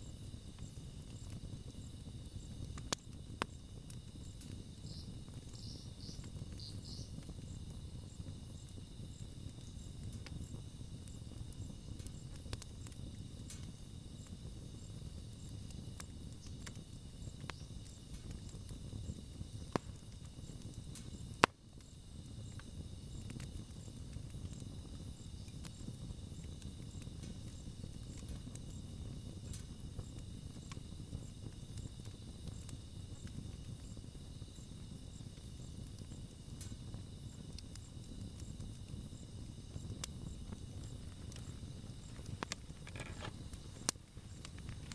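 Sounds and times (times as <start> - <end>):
campfire crackling: 0.0 - 44.9
insects chirring: 0.0 - 44.9
sharp fire pops: 0.0 - 44.9.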